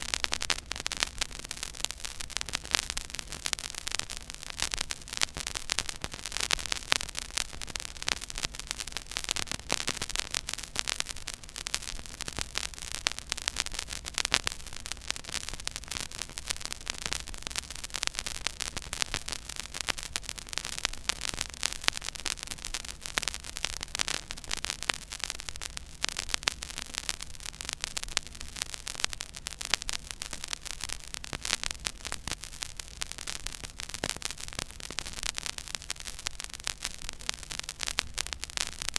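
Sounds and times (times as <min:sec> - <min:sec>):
vinyl record crackle and pops: 0:00.0 - 0:38.9.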